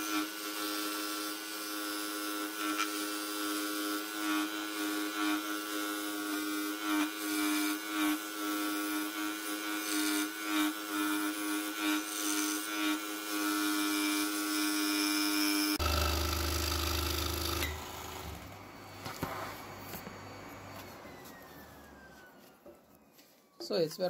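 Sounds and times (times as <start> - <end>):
scroll saw cutting wood: 0.0 - 23.0.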